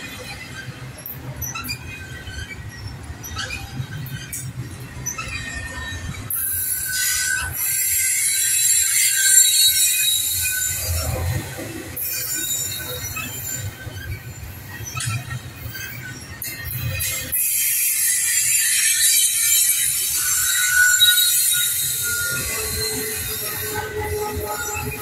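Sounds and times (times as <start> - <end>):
train rumble: 0.0 - 25.0
train wheels squealing: 0.0 - 25.0.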